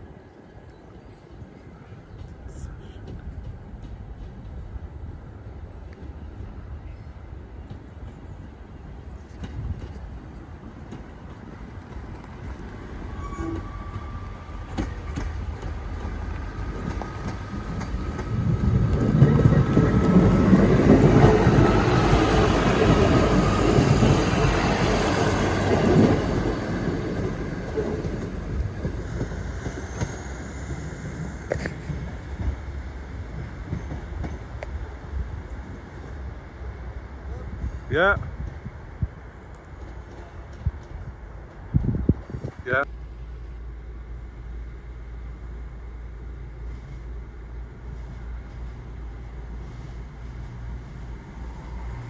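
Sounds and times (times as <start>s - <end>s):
diesel train pulling away: 1.5s - 52.0s.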